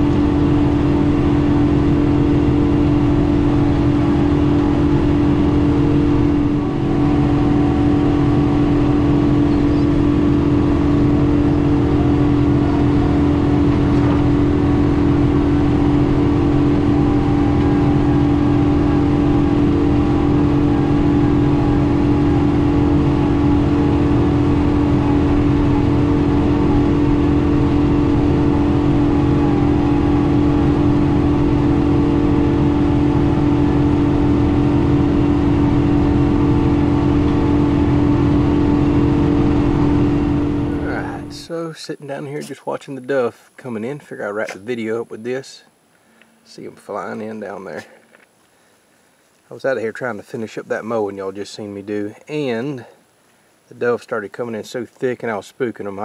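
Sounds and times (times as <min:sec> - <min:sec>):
tractor diesel engine droning: 0:00.0 - 0:48.9.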